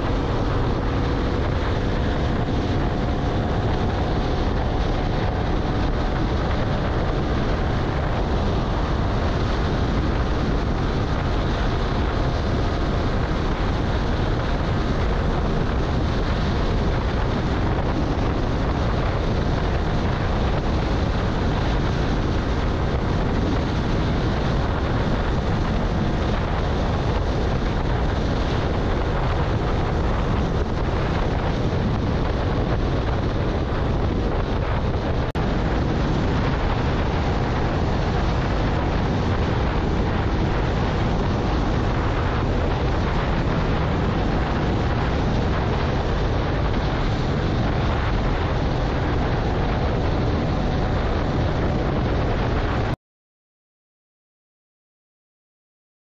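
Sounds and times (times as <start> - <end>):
scooter engine at full throttle: 0.0 - 52.9
wind rush on microphone: 0.0 - 53.0.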